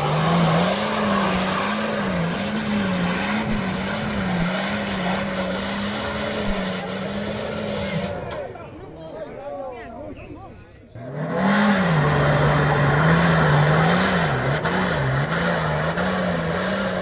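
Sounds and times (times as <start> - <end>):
engine at high revs wobbling: 0.0 - 8.3, 11.0 - 17.0.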